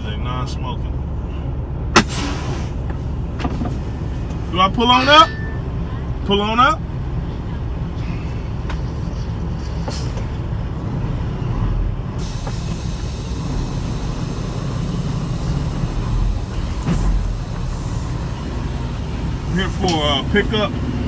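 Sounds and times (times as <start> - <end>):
diesel engine running low: 0.0 - 21.0.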